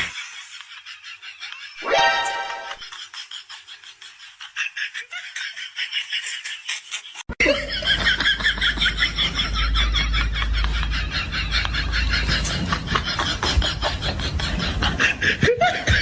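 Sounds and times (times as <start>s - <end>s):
people laughing: 0.0s - 16.0s.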